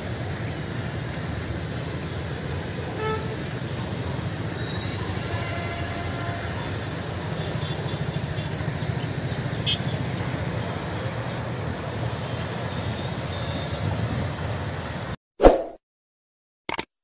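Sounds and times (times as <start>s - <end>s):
floodwater rushing: 0.1s - 15.2s.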